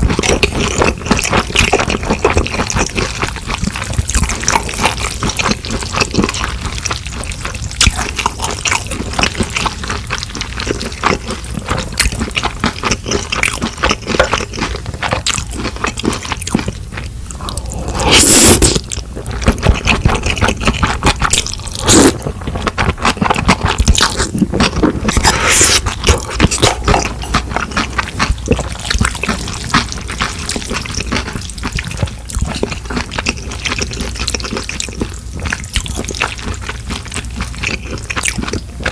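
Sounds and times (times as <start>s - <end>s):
wet chewing and smacking: 0.0s - 38.9s.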